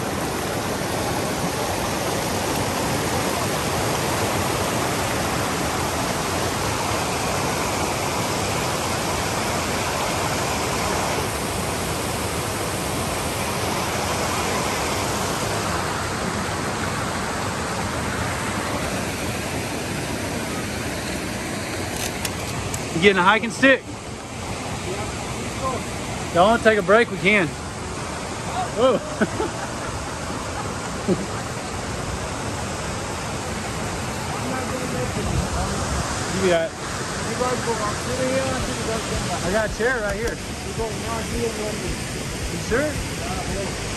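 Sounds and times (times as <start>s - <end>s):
water rushing in creek: 0.0s - 43.9s.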